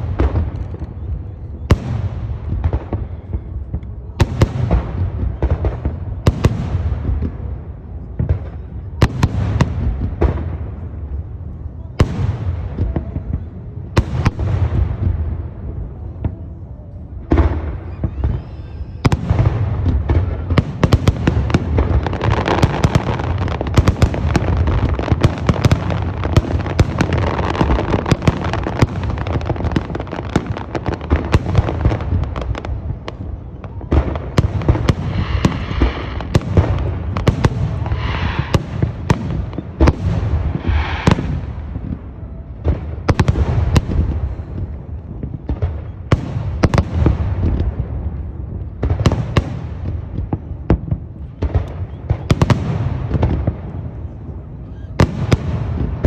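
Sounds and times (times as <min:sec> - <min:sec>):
fireworks booms: 0:00.0 - 0:56.0
fireworks bursts and crackling: 0:00.0 - 0:56.0.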